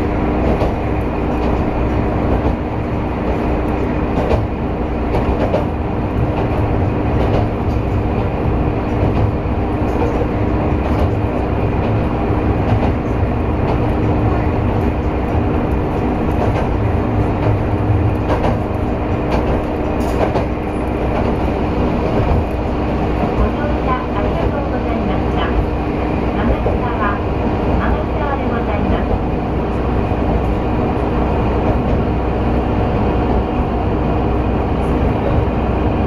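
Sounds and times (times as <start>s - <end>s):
train engine and rolling drone: 0.0s - 36.0s.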